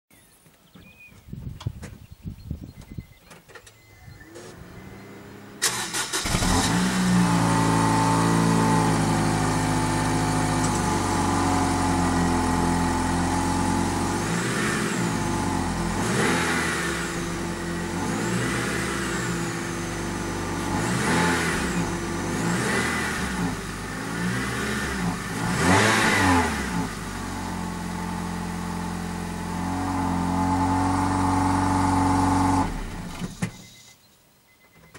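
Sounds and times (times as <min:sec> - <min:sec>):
car engine idling and revving: 0:02.8 - 0:33.9.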